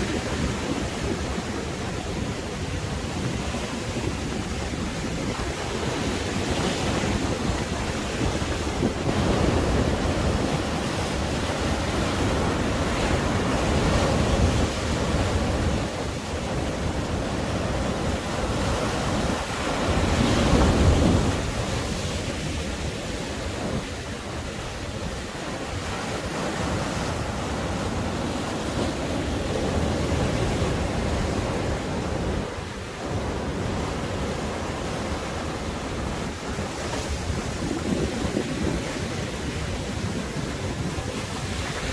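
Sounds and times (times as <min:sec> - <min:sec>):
waves breaking on beach: 0:00.0 - 0:41.9
wind buffeting microphone: 0:00.0 - 0:41.9.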